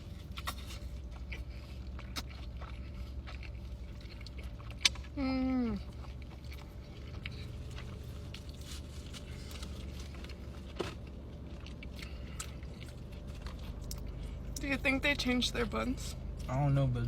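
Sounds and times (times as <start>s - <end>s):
chewing a burger: 0.0s - 14.6s
steady low hum: 0.0s - 17.0s.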